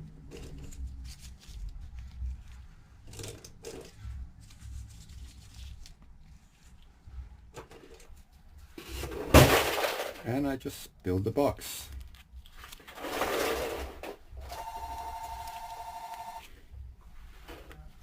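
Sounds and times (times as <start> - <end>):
rustling: 0.2 - 10.2, 11.8 - 18.0.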